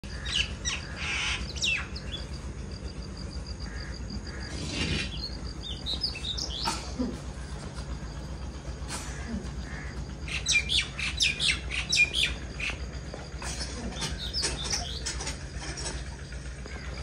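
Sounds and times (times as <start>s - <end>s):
birds chirping and calling: 0.0s - 17.0s
steady low hum: 0.0s - 17.0s.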